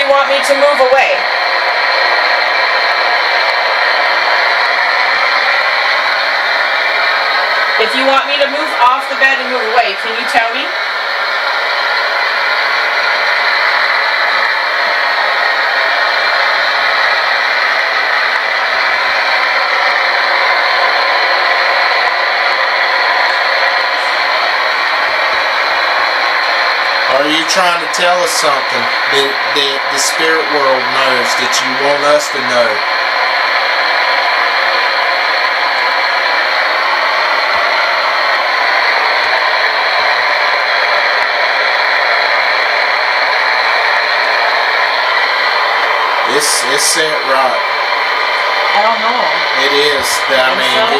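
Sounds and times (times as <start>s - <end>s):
radio static hiss: 0.0s - 50.9s.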